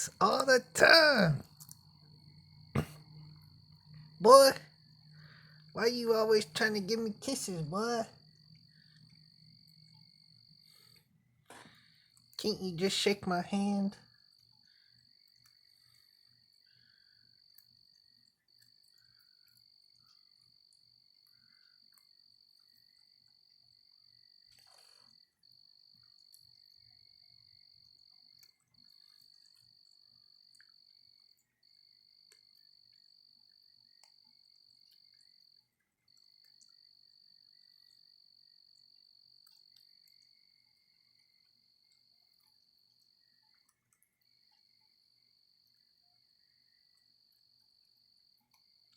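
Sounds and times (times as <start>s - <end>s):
high insect trill: 0.0s - 48.9s
low insect trill: 0.0s - 48.9s.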